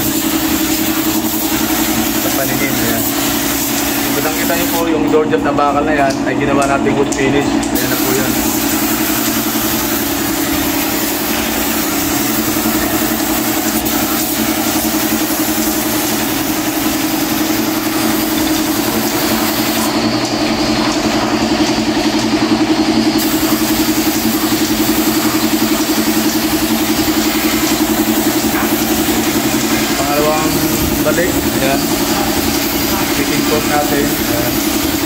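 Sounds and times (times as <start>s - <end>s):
spray gun hissing: 0.0s - 4.9s, 7.8s - 20.1s, 23.1s - 35.0s
air compressor humming: 0.0s - 35.0s.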